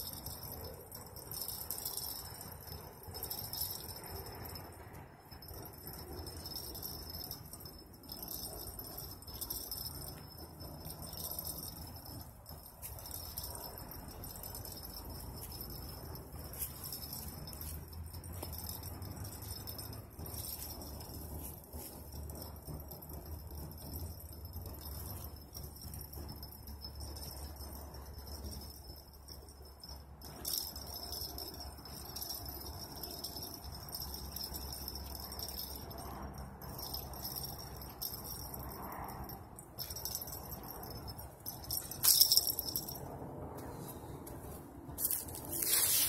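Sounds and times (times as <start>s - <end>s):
fishing reel clicking and rattling: 0.0s - 43.0s
steady low rumble: 0.0s - 46.0s.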